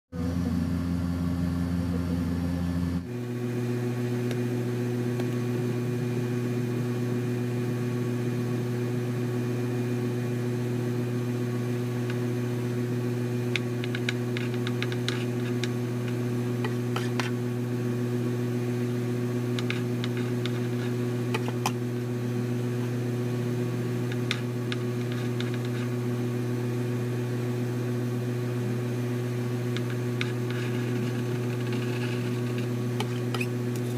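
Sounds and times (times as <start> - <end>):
machine hum: 0.1 - 33.9.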